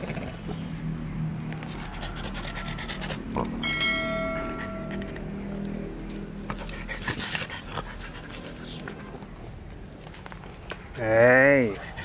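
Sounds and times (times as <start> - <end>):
puppies panting: 1.5 - 12.0.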